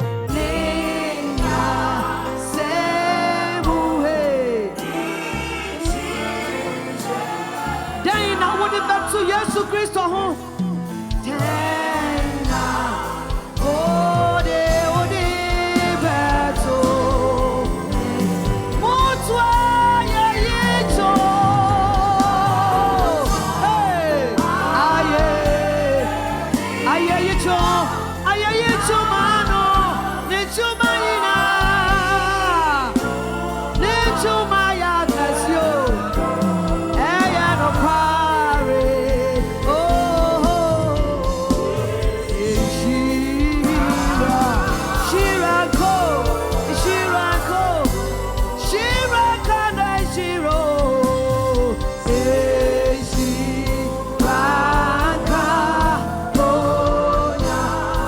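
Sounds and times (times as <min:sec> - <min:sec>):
band with bass and beat: 0:00.0 - 0:58.0
person singing with vibrato: 0:00.0 - 0:58.0.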